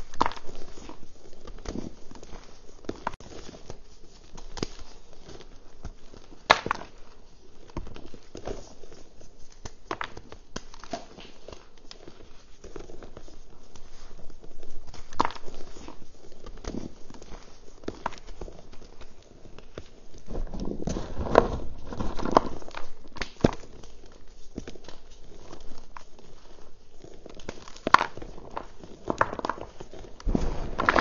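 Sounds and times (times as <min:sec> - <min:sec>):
chalk crunching and crackling: 0:00.0 - 0:31.0.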